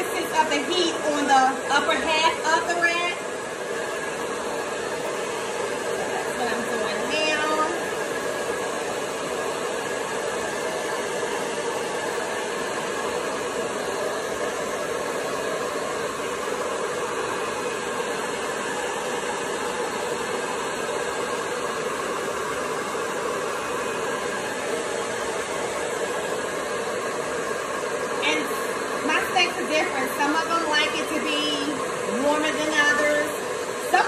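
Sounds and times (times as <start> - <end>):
hair dryer running: 0.0 - 34.0.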